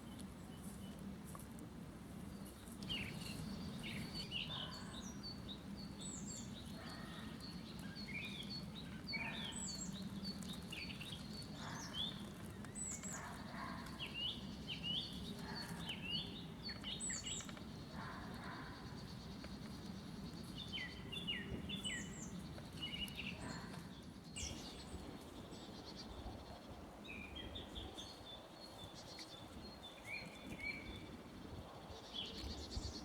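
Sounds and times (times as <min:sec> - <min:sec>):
songbirds chirping and whistling: 0:02.3 - 0:33.0.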